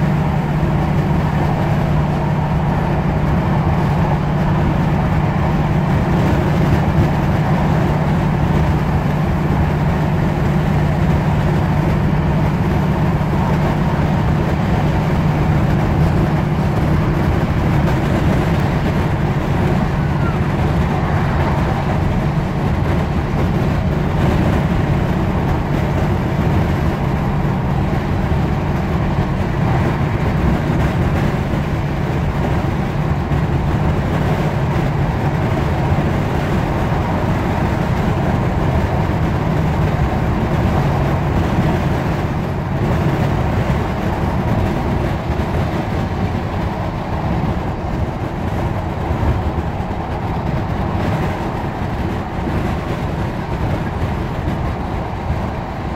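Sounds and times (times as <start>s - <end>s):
diesel train engine running: 0.0s - 55.9s
train wheels on rails: 0.0s - 55.9s.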